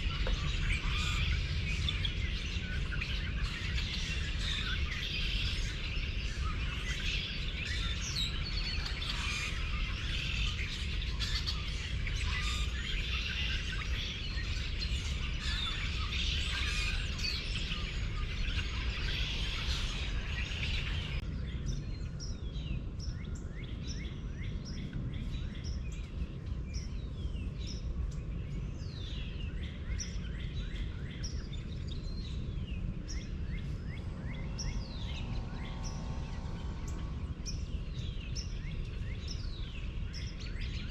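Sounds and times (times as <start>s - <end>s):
birds chirping and calling: 0.0s - 40.9s
steady low rumble: 0.0s - 40.9s.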